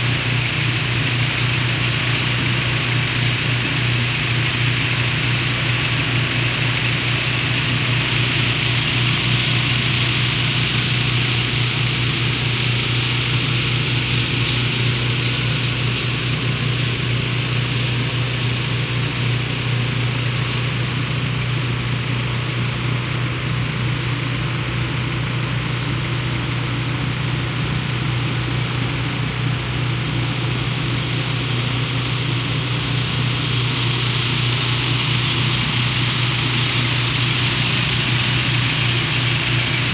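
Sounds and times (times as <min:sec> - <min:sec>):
sprayer hiss: 0:00.0 - 0:39.9
tractor engine running: 0:00.0 - 0:39.9.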